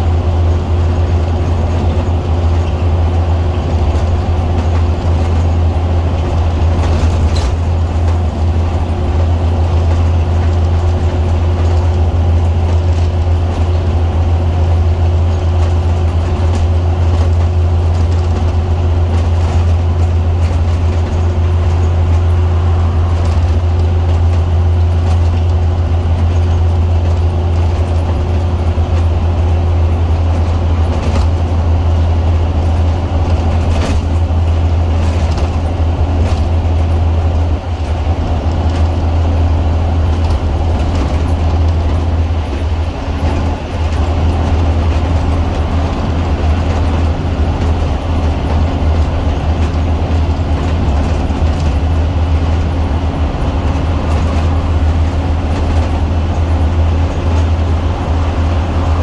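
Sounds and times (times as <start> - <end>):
bus diesel engine drone: 0.0 - 59.0
road and tyre noise: 0.0 - 59.0.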